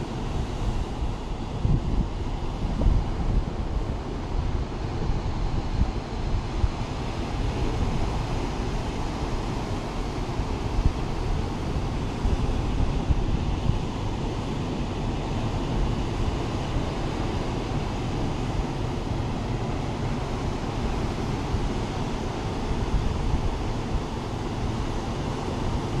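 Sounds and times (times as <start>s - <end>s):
wind buffeting microphone: 0.0s - 24.9s
sea surf breaking over rocks: 0.0s - 26.0s.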